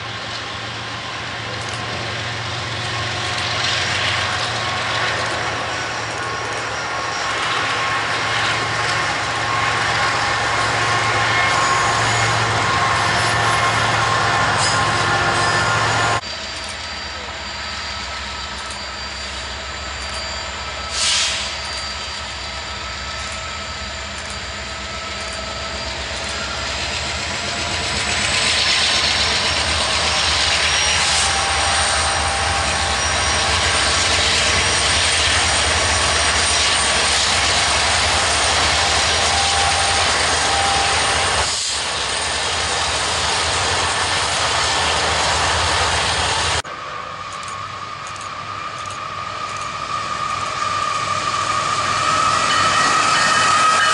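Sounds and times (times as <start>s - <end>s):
diesel locomotives passing: 0.0s - 53.9s
distant train: 0.0s - 53.9s.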